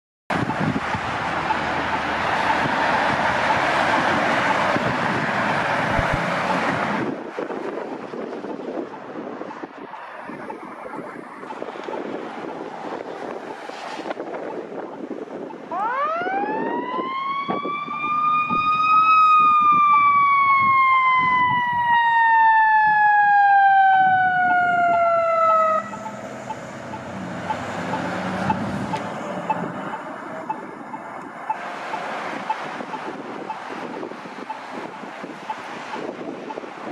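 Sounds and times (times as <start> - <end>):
fire engine siren wailing: 0.3 - 36.9
traffic noise: 0.3 - 36.9.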